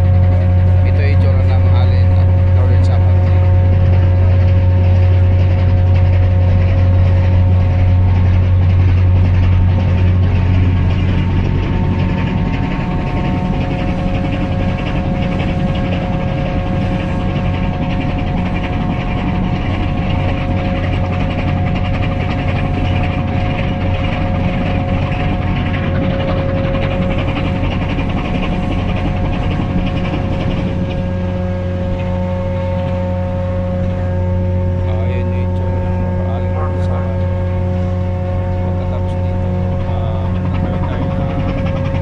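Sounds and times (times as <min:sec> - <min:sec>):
ferry engines droning: 0:00.0 - 0:42.0.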